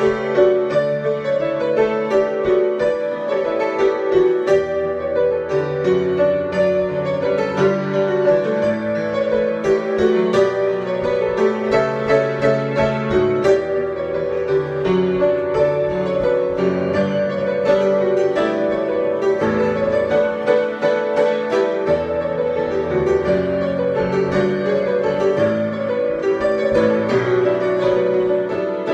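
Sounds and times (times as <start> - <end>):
solo piano: 0.0 - 28.9.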